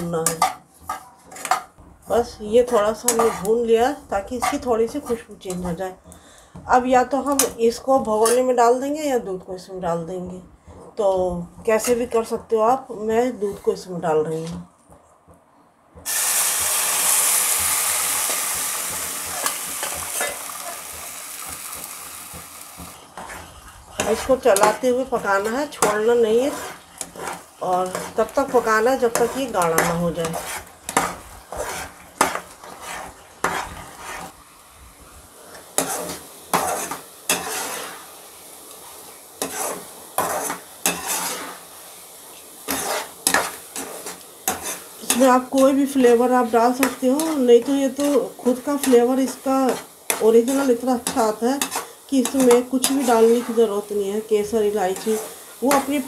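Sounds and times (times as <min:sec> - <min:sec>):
milk sizzling in a hot pan: 0:00.0 - 0:09.3, 0:16.0 - 0:56.0.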